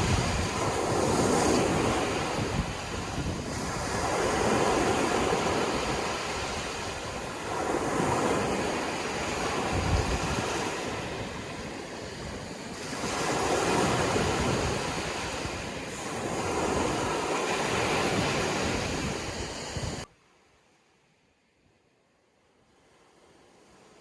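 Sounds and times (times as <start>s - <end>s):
sea waves breaking: 0.0s - 20.1s.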